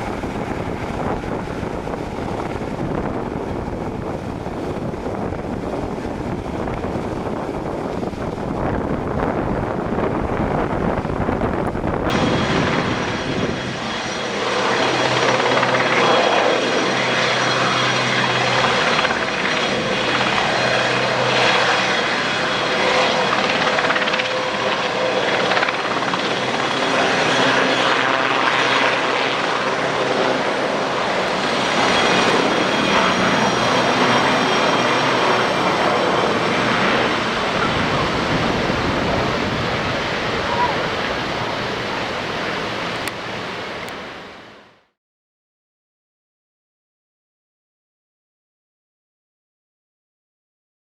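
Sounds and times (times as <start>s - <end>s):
helicopter engines whining: 0.0s - 44.6s
helicopter rotors throbbing: 0.0s - 44.7s.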